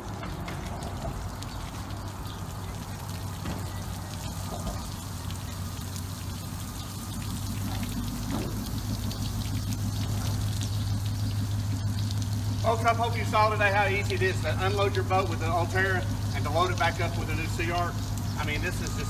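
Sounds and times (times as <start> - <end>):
water pouring and dripping on pavement: 0.0 - 19.0.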